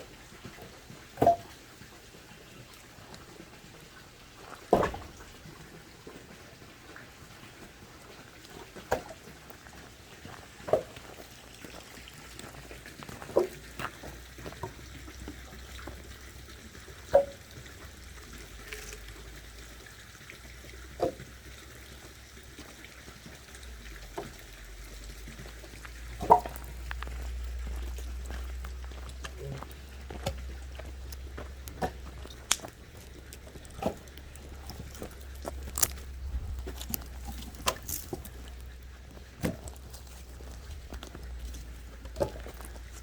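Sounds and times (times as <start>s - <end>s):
water trickling and pouring: 0.0s - 43.0s.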